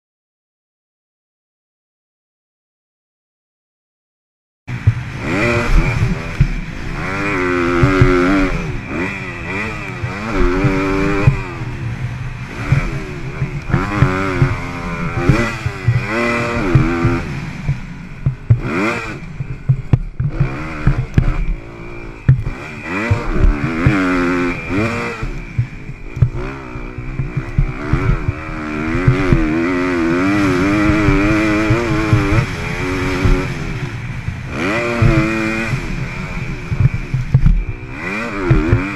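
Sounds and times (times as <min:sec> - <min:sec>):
bike clattering over bumps: 0:04.7 - 0:38.9
motocross engine revving: 0:04.7 - 0:38.9.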